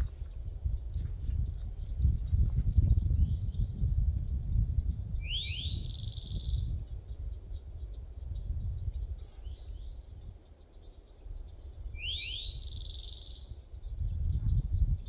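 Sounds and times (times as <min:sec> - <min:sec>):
songbird chirps and buzzy trill: 0:00.0 - 0:15.0.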